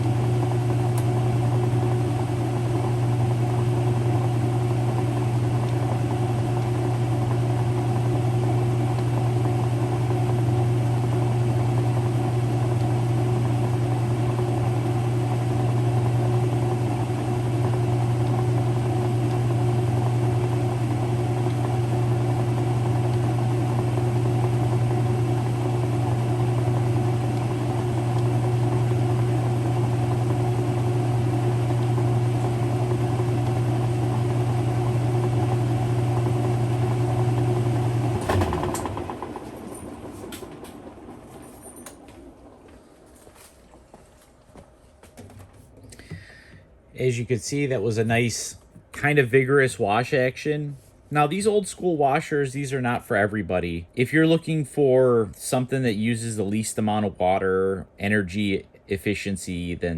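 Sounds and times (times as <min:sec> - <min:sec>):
washing machine motor humming: 0:00.0 - 0:49.2.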